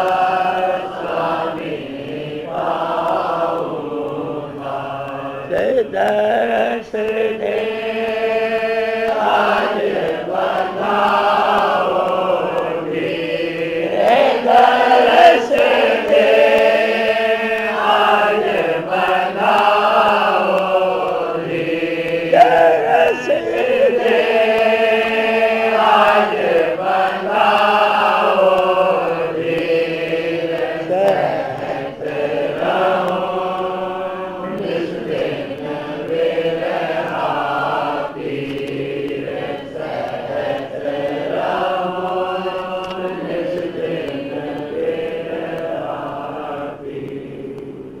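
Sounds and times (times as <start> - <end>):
devotional chant singing: 0.0 - 48.0.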